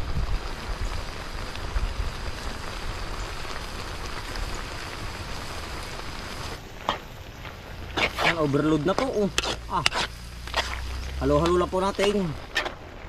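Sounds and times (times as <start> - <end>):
low rumble of wood fire: 0.0 - 13.0
stew sizzling in a wok: 0.0 - 13.0.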